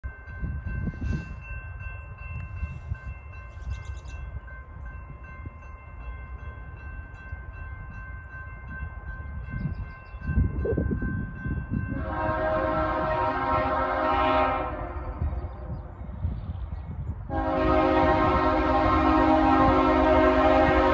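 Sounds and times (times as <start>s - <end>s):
crossing warning bell ringing: 0.0s - 15.3s, 17.3s - 20.9s
wind gusting on microphone: 0.1s - 20.9s.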